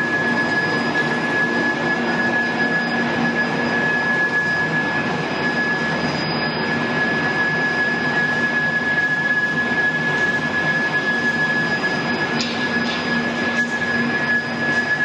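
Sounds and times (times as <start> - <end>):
production line machinery running: 0.0 - 15.0.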